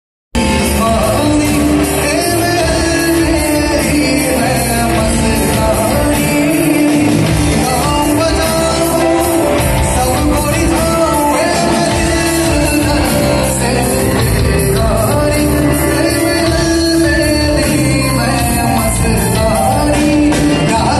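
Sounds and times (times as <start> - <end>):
lead singer singing: 0.4 - 20.9
live band playing: 0.4 - 20.9.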